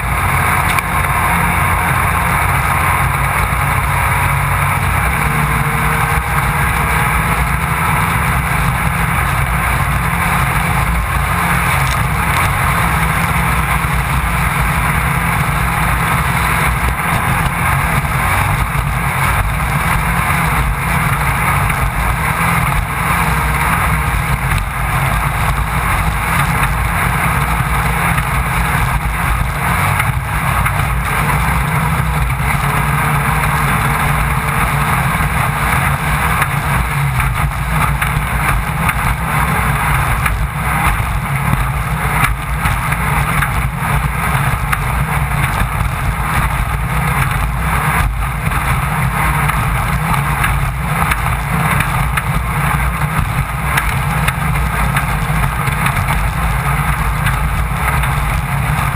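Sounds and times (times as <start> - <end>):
race car engine drone: 0.0 - 58.9.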